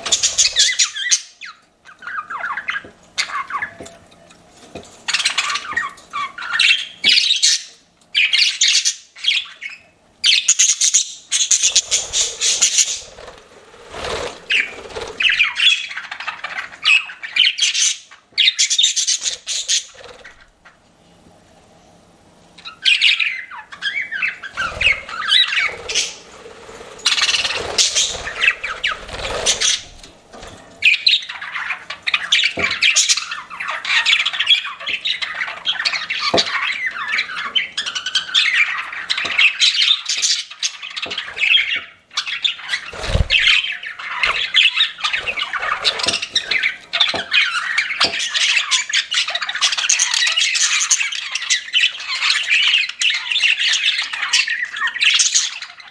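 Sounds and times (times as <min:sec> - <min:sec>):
budgerigars chattering and chirping: 0:00.0 - 0:04.0, 0:05.0 - 0:20.5, 0:22.6 - 0:30.1, 0:30.8 - 0:55.9.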